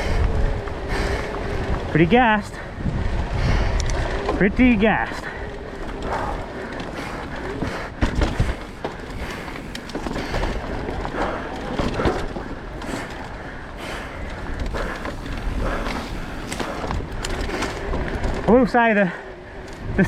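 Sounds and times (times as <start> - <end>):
bike tyre and rattle noise: 0.0 - 20.0.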